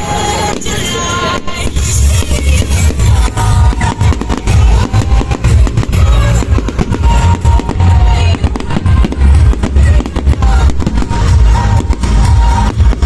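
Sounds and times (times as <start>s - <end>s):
fireworks bangs and crackles: 0.0s - 13.0s
loud music with heavy bass beat: 1.6s - 13.0s.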